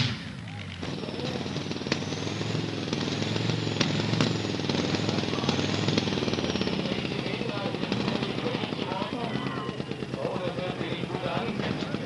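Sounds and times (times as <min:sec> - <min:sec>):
tractor engine rough firing: 0:00.0 - 0:12.0.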